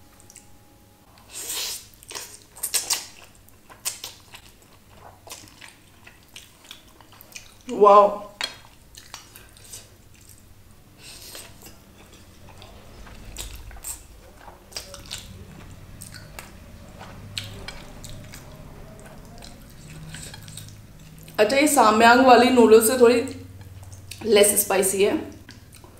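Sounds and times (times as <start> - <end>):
wet chewing and slurping: 1.2 - 7.7, 8.4 - 21.4, 23.5 - 24.3, 25.4 - 25.9.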